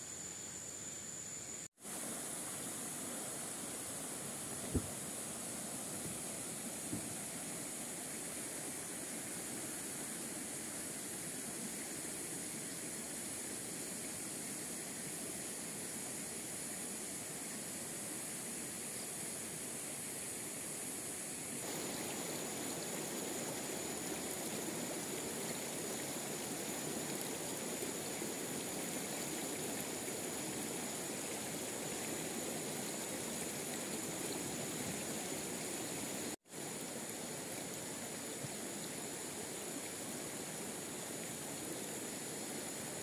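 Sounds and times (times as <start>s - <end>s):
stream water rushing: 1.8s - 18.8s, 21.5s - 43.0s.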